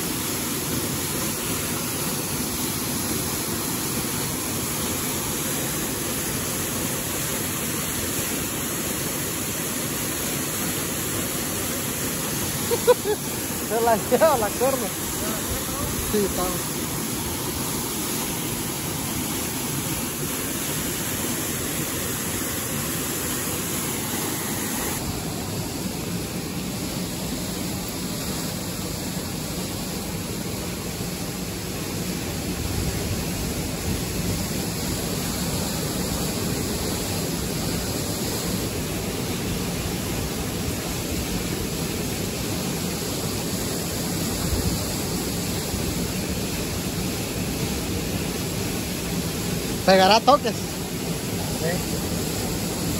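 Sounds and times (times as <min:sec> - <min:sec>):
water rushing from dam outlet: 0:00.0 - 0:52.9.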